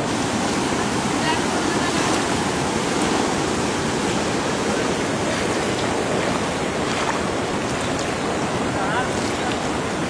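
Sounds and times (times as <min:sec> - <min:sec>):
river rushing through sluice gate: 0:00.0 - 0:10.0.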